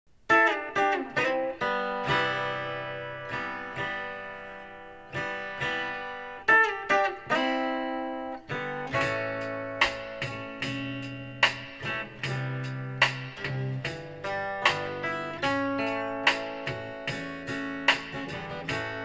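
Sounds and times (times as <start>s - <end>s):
guitar playing slow chords: 0.3s - 19.0s.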